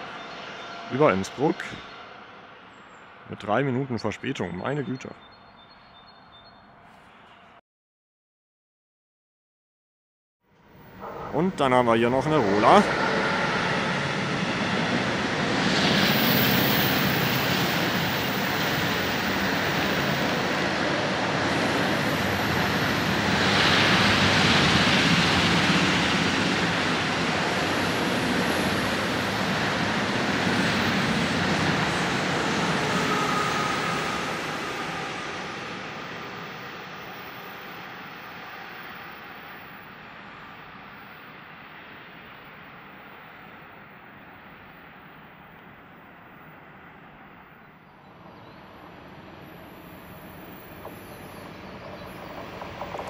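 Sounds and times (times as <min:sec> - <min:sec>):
freight train rumbling past: 0:00.0 - 0:04.0, 0:10.6 - 0:53.0.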